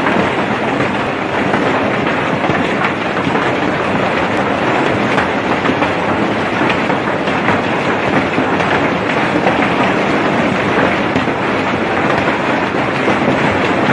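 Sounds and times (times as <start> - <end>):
hailstones clattering: 0.0 - 13.9
heavy rain: 0.0 - 13.9.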